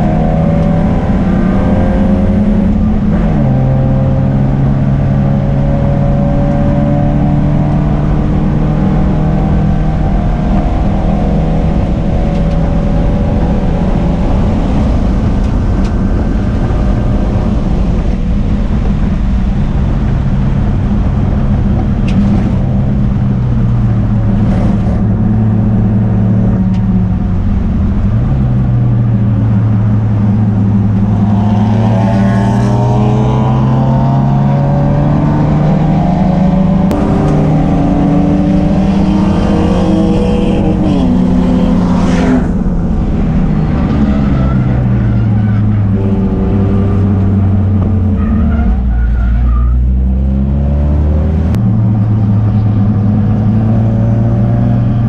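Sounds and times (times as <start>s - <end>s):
race car engine running: 0.0s - 55.0s
road and wind noise: 0.0s - 55.0s.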